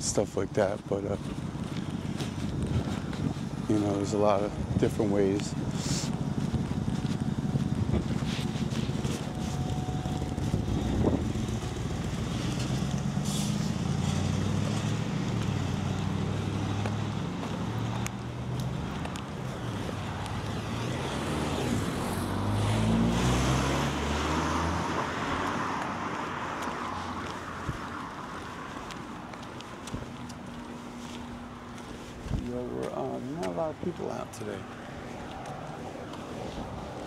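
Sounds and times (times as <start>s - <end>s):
city street traffic: 0.0s - 37.0s
vehicle engine running nearby: 0.0s - 37.0s.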